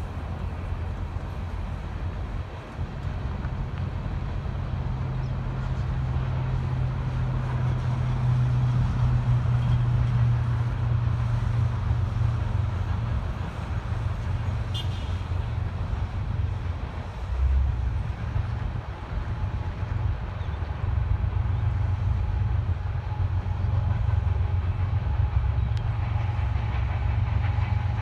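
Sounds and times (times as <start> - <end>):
train cars rumbling past: 0.0 - 28.0.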